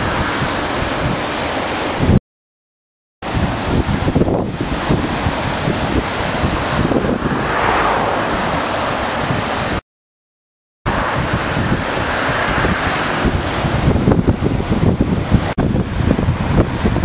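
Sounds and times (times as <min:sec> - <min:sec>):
sea surf washing up beach: 0:00.0 - 0:02.2, 0:03.2 - 0:09.8, 0:10.9 - 0:17.0
wind buffeting microphone: 0:00.0 - 0:02.2, 0:03.2 - 0:09.8, 0:10.9 - 0:17.0.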